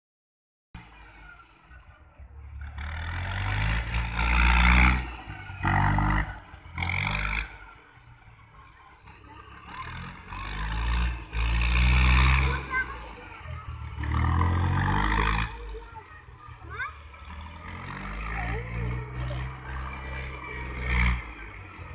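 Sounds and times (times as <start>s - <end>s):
tractor diesel engine under load: 0.8s - 21.9s.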